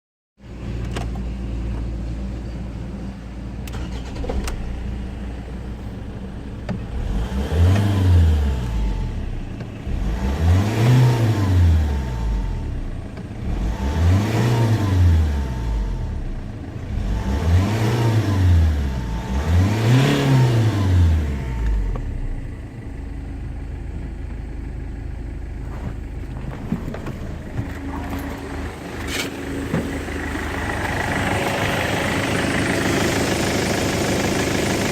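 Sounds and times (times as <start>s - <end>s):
diesel engine idling and revving: 0.4s - 34.9s.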